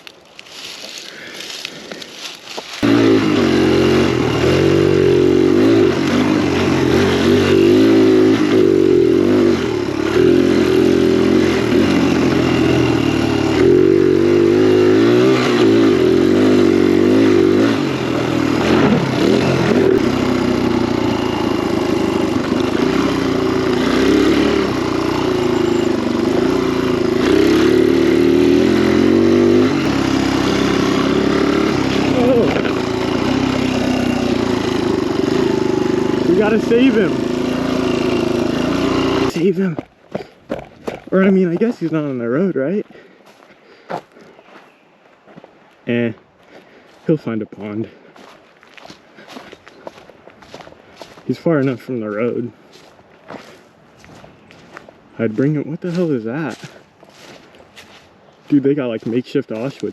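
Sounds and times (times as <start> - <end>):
dirt bike engine revving: 2.7 - 43.0, 48.7 - 59.9.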